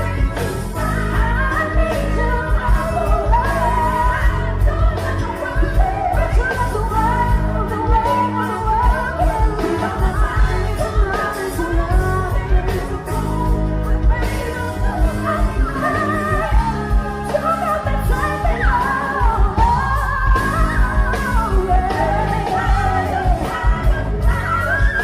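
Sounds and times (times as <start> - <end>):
band playing: 0.0 - 25.0
woman singing: 0.0 - 25.0.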